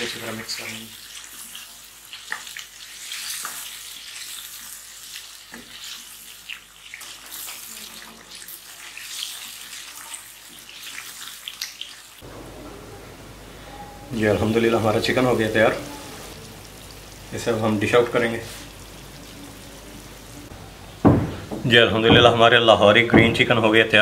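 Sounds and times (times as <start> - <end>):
food sizzling in a pan: 0.0 - 12.3, 13.3 - 21.1.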